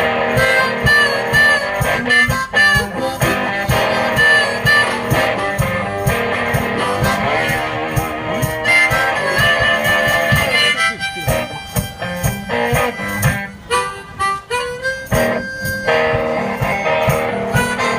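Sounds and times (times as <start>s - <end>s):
guitar: 0.0s - 17.9s
harmonica: 0.0s - 17.9s
steady low beat: 0.0s - 17.9s.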